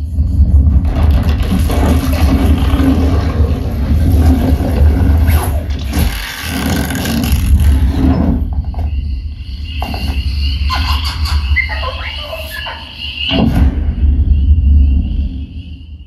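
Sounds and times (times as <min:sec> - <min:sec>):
movie trailer soundtrack with deep bass: 0:00.0 - 0:16.0.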